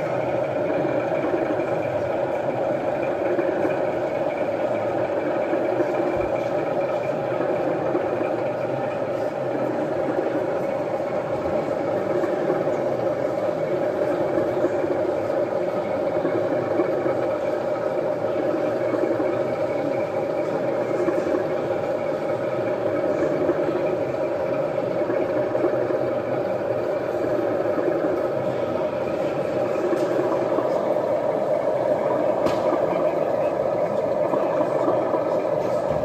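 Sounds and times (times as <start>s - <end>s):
busy hall background noise: 0.0s - 36.0s
model trains running: 0.0s - 36.0s.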